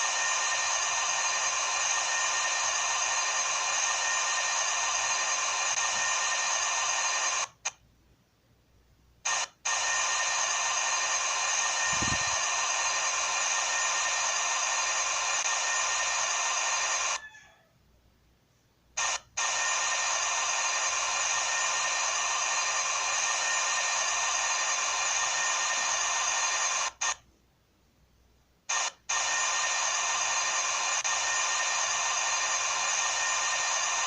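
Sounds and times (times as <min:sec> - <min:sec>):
machine whining over hiss: 0:00.0 - 0:07.7, 0:09.3 - 0:17.3, 0:19.0 - 0:27.2, 0:28.7 - 0:34.0.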